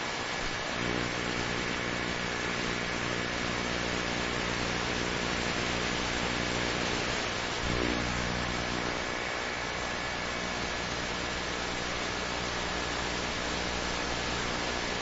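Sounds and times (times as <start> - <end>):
high steady whine: 0.0 - 15.0.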